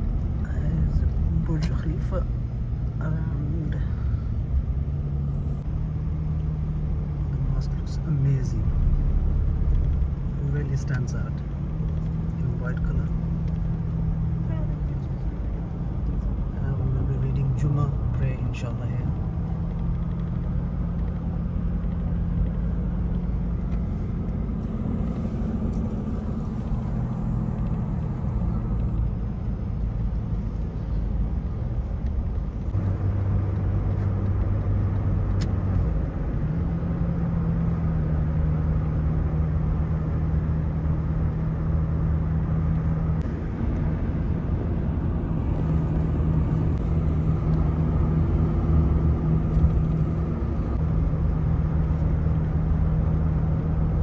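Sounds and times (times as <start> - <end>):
car engine hum: 0.0 - 54.0
road noise inside car: 0.0 - 54.0.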